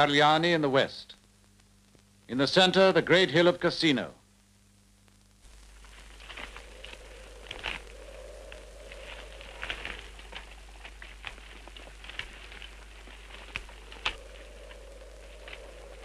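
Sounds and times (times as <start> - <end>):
low hum and hiss: 0.0 - 16.0
film crackle clicks and pops: 1.1 - 2.3, 4.3 - 16.0.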